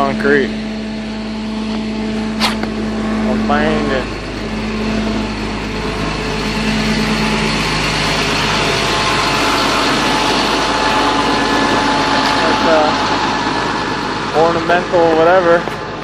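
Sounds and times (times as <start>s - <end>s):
road noise: 0.0s - 16.0s
truck engine hum: 0.0s - 16.0s.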